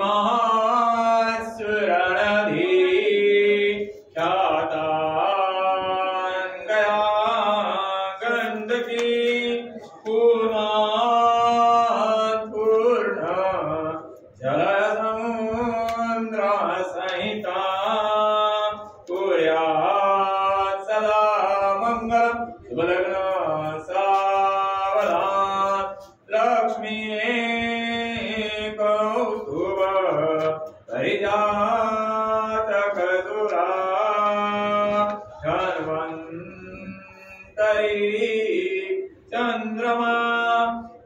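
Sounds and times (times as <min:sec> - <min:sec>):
person chanting in sung melody: 0:00.0 - 0:41.0.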